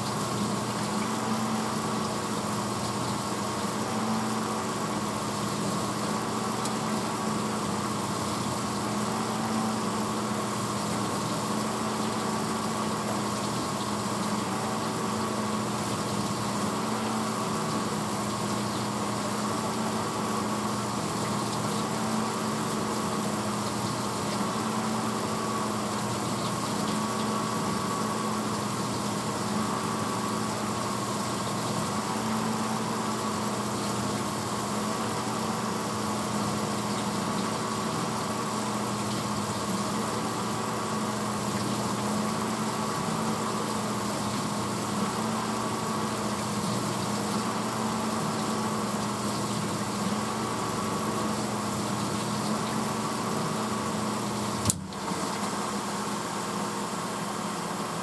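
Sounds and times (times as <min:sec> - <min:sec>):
dishwasher pump motor humming: 0:00.0 - 0:58.0
water spraying inside tub: 0:00.0 - 0:58.0.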